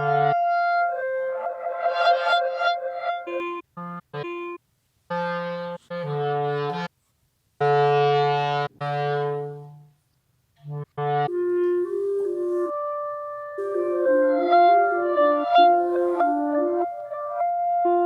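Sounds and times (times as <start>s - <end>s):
solo clarinet playing low notes: 0.0s - 6.9s, 7.6s - 10.0s, 10.6s - 18.0s.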